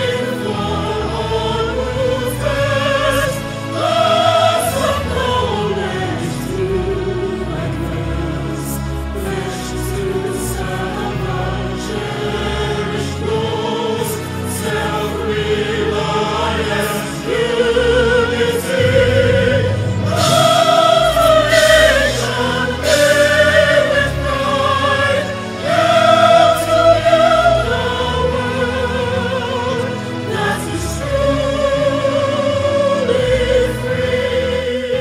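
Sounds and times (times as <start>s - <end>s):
choral singing with accompaniment: 0.0s - 35.0s.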